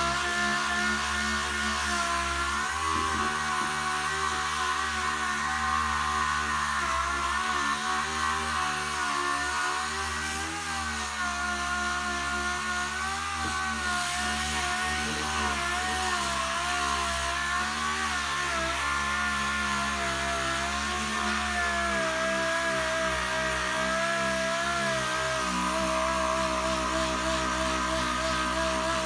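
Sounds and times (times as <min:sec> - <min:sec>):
air sander whining: 0:00.0 - 0:29.0.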